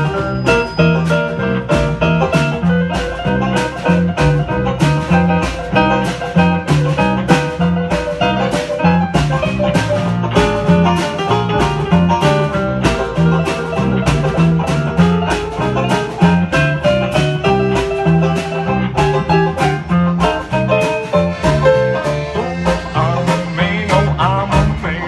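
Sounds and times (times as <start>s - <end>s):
bluegrass band playing: 0.0s - 25.0s
plucked strings: 0.0s - 25.0s
steady bass beat: 0.0s - 25.0s.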